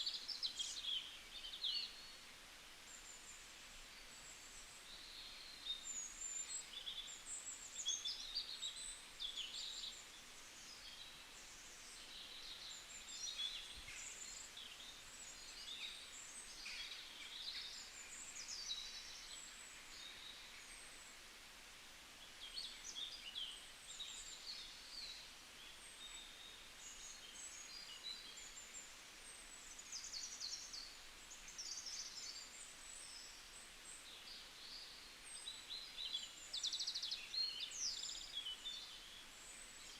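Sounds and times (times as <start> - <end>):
faint background hiss: 0.0 - 39.9
songbirds chirping and trilling: 0.0 - 39.9.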